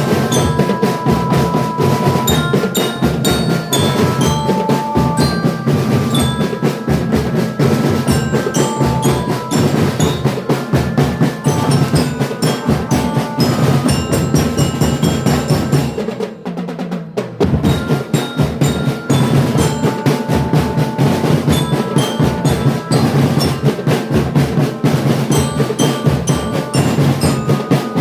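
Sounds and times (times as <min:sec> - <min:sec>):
mallet percussion melody: 0:00.0 - 0:28.0
snare and bass drum beats: 0:00.0 - 0:28.0.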